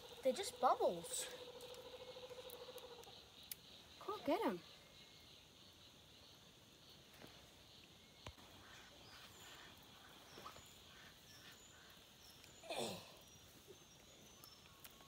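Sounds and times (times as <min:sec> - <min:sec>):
frogs calling: 0:00.0 - 0:07.0, 0:07.7 - 0:15.0.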